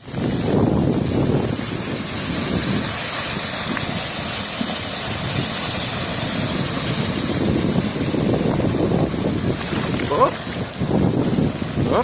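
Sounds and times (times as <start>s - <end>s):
water rushing: 0.0s - 12.0s
wind noise: 0.0s - 12.0s.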